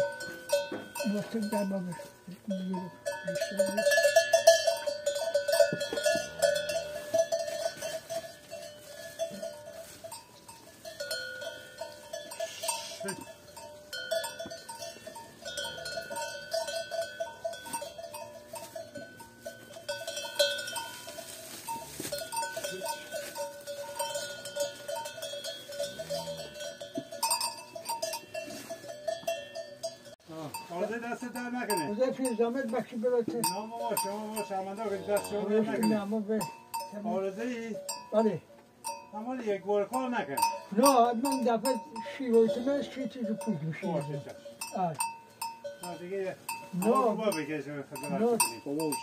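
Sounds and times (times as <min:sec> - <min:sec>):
cowbell clanking: 0:00.0 - 0:49.0.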